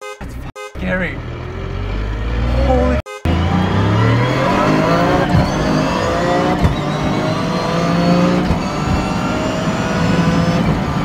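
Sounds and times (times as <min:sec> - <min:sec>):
car engine accelerating hard: 0:01.2 - 0:11.0
gearbox whine: 0:01.2 - 0:11.0.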